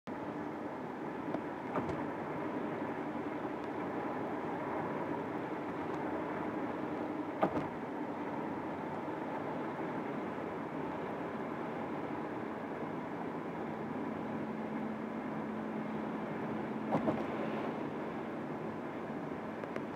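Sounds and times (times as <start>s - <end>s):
road and engine noise in car: 0.1s - 19.9s.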